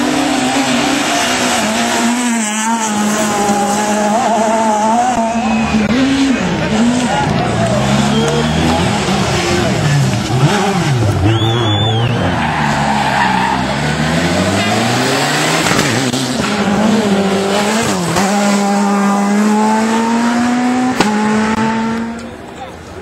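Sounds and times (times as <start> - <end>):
rally car engine revving: 0.0 - 22.9.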